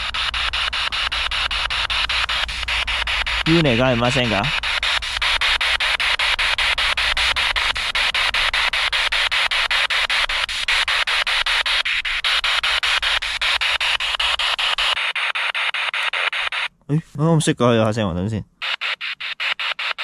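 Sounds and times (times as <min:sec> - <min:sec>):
chopped electronic static hiss: 0:00.0 - 0:20.0.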